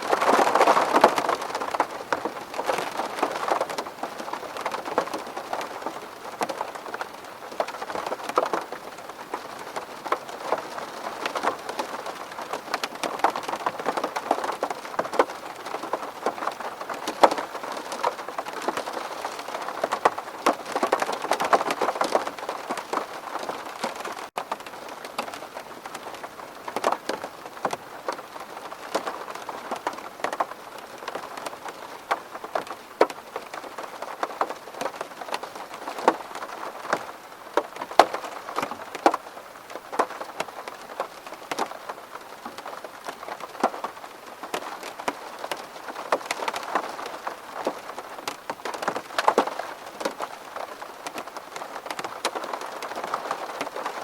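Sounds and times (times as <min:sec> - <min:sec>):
rain tapping on window glass: 0:00.0 - 0:54.0.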